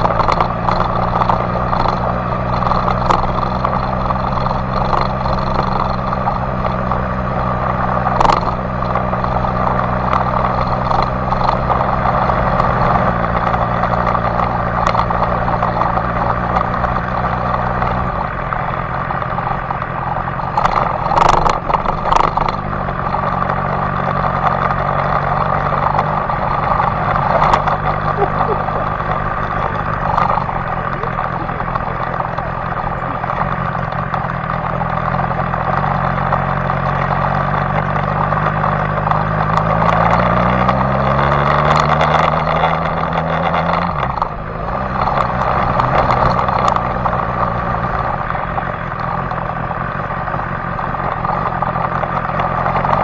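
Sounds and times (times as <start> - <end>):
motorcycle engine running: 0.0 - 53.0
wind and tyre noise: 0.0 - 53.0.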